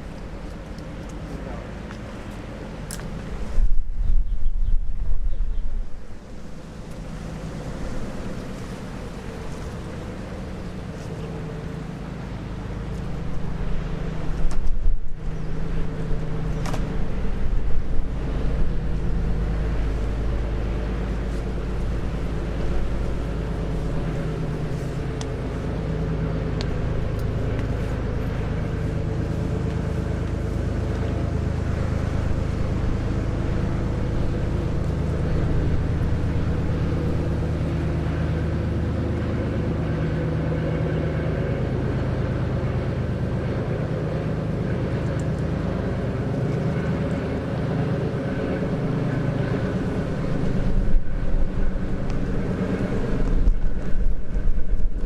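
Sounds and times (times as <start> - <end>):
diesel engine droning: 0.0 - 3.9, 5.7 - 55.0
wind gusting on microphone: 0.0 - 40.1, 40.7 - 55.0.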